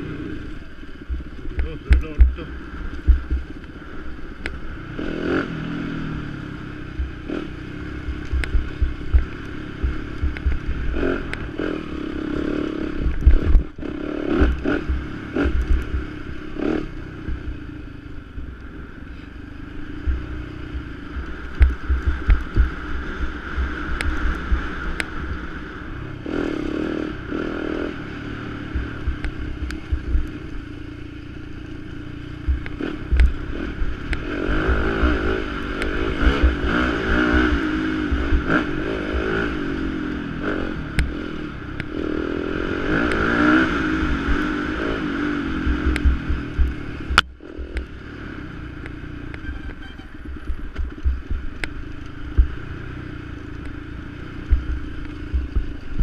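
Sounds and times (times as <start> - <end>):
dirt bike engine revving: 0.0 - 17.7, 19.6 - 52.9.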